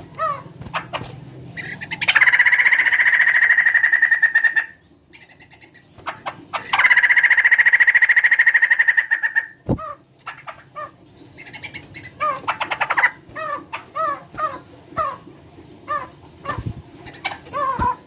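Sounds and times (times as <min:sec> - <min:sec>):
bird rattling trill: 0:00.3 - 0:09.6, 0:11.4 - 0:15.3, 0:15.9 - 0:18.0.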